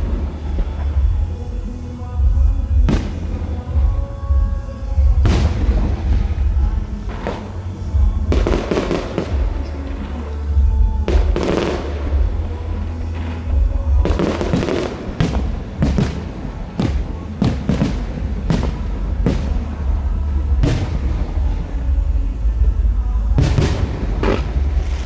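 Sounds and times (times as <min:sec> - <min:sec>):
fireworks bangs: 0:00.0 - 0:22.4, 0:23.2 - 0:25.0
steady low rumble: 0:00.0 - 0:25.0.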